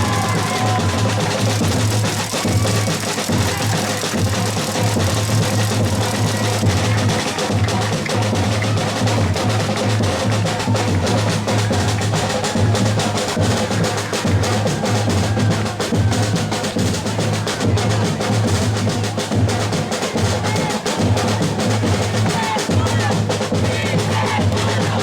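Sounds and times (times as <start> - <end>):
music with dense drumming: 0.0 - 25.0.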